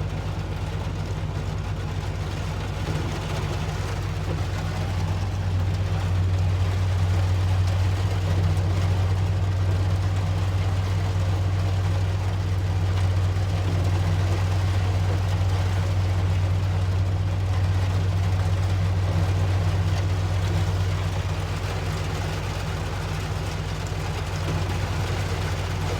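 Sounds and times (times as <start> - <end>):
large engine droning: 0.0 - 25.9.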